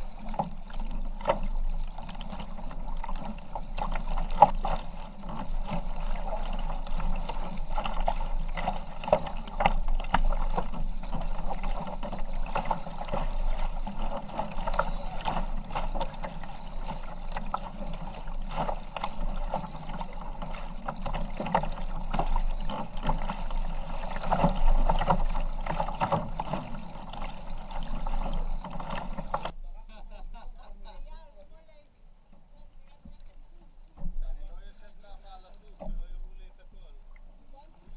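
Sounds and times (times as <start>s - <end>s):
kayak paddle splashing: 0.0s - 37.9s
water noise: 0.0s - 37.9s.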